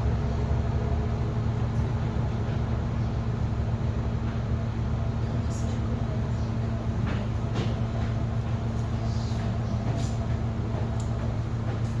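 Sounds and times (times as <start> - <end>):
diesel railcar engine humming: 0.0 - 12.0.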